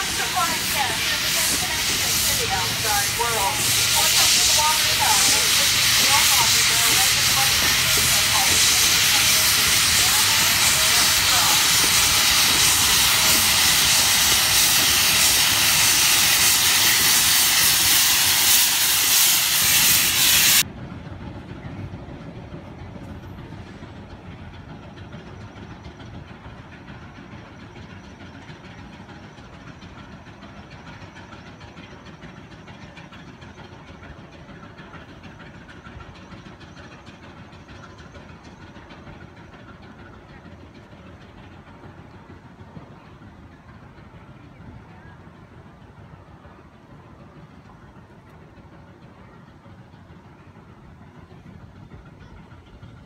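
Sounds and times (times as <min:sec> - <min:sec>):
steam locomotive venting steam: 0:00.0 - 0:53.0.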